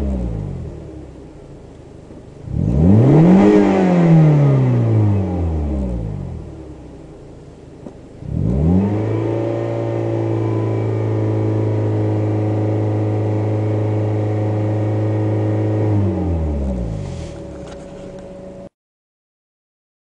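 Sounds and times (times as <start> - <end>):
car engine idling and revving: 0.0 - 18.7.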